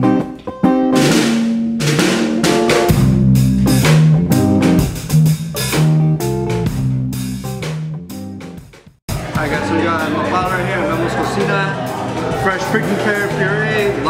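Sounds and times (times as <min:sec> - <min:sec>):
guitar music: 0:00.0 - 0:14.0
drum beat: 0:00.9 - 0:14.0.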